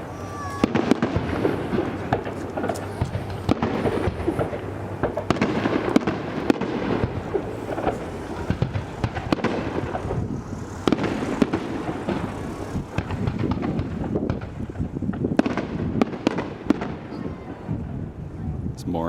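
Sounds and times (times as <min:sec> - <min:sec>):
rumble of shell bursts: 0:00.0 - 0:18.2
firework cracks and bangs: 0:00.0 - 0:18.4.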